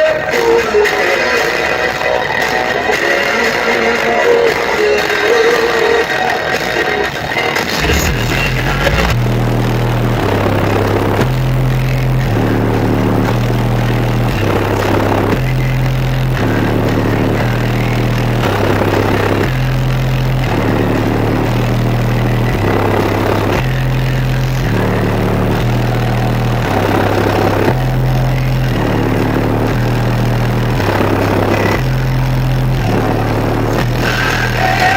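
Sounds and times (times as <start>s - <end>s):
bass-heavy music on car speakers: 0.0s - 34.9s.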